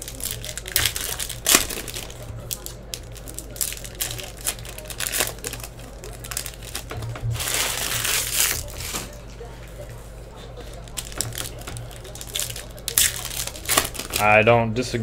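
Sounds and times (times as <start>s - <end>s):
foil wrappers crinkling: 0.0s - 14.4s.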